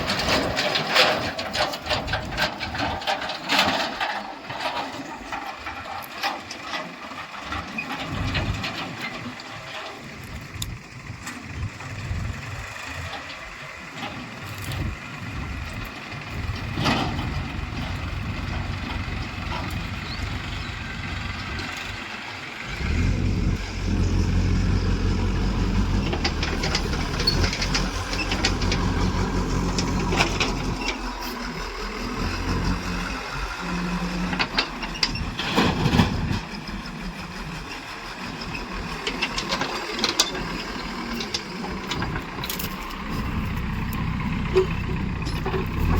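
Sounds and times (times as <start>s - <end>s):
heavy vehicle engine running: 0.0s - 45.9s.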